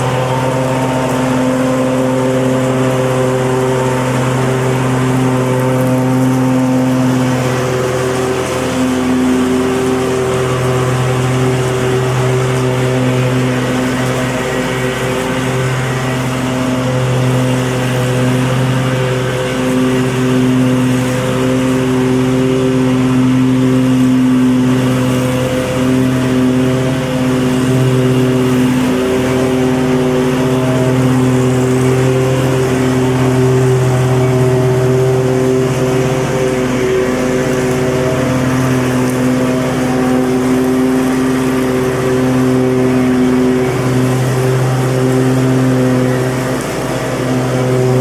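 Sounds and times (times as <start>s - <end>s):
lawn mower engine running: 0.0s - 48.0s.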